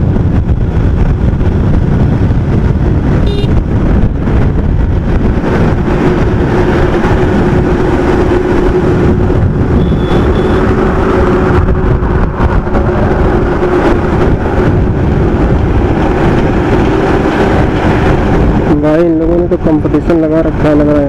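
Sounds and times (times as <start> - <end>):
motorcycle engine: 0.0 - 19.4
wind rushing over microphone: 0.0 - 21.0.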